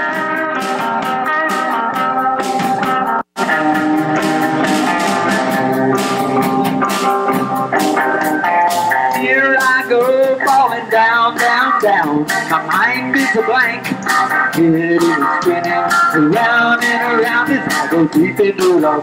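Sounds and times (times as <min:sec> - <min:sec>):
rockabilly band playing live: 0:00.0 - 0:19.0.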